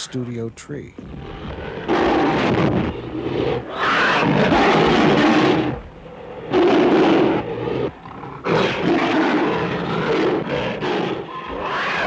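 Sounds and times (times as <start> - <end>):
monster roars: 1.2 - 12.0.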